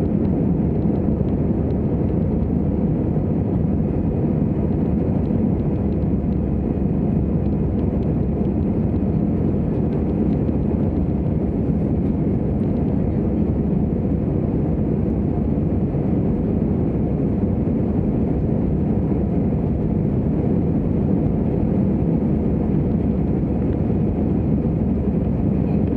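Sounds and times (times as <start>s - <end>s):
airplane cabin engine rumble: 0.0s - 25.9s.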